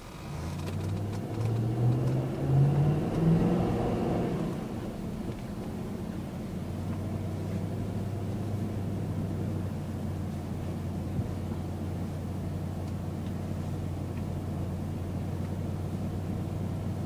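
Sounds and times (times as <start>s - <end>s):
engine pulling away: 0.0s - 17.0s.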